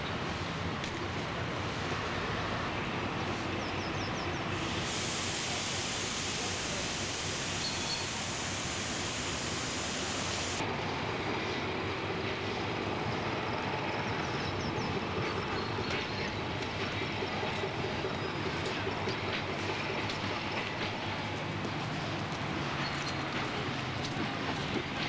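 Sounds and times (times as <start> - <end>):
diesel locomotive rumbling: 0.0 - 25.0
train wheels on track: 0.0 - 25.0.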